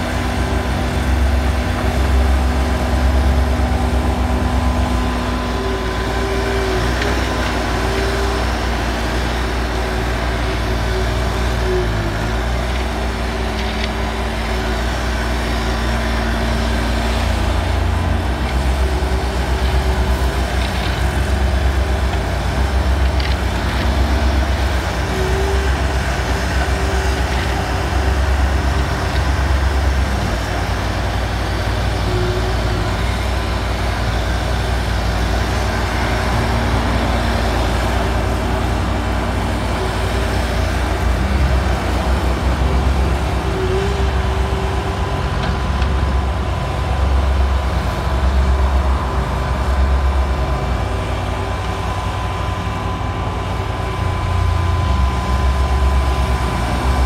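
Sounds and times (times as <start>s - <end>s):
loader diesel engine running: 0.0s - 57.0s.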